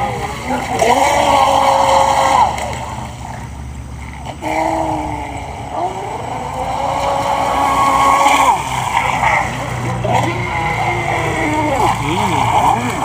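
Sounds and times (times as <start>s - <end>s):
model boat motor whining: 0.0s - 13.0s.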